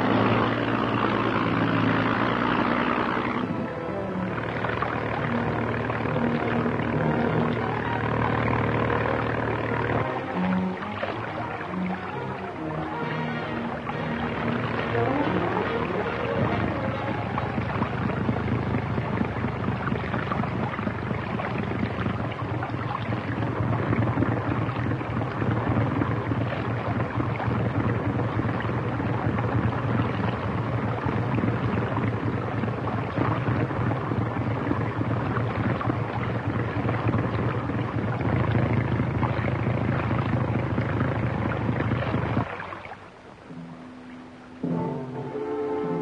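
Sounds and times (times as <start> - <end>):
churning water: 0.0 - 46.0
motorboat engine droning: 0.0 - 46.0.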